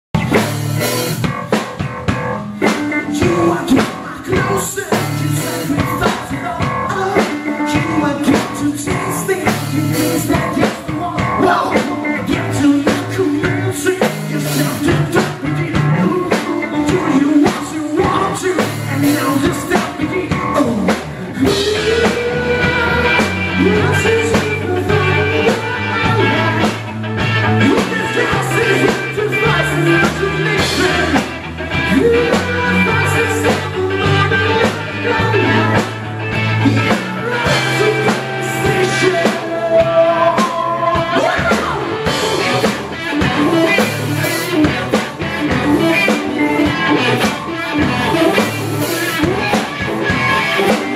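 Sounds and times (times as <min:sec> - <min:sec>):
electric bass: 0:00.0 - 0:50.9
drum kit: 0:00.1 - 0:50.9
electric guitar: 0:00.1 - 0:50.9
man singing into a microphone: 0:02.6 - 0:50.9.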